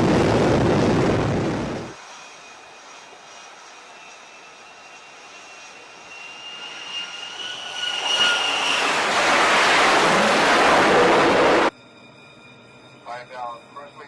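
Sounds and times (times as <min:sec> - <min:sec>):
jet engine rushing: 0:00.0 - 0:11.7
high-pitched jet whine: 0:00.0 - 0:14.0.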